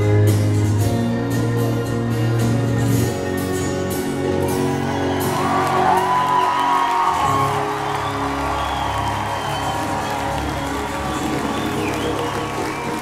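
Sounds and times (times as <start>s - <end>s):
rock band with electric guitar: 0.0s - 13.0s.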